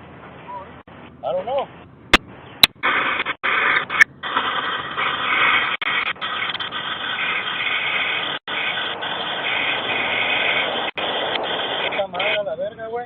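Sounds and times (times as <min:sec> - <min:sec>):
static-like microphone hiss: 0:00.0 - 0:13.0.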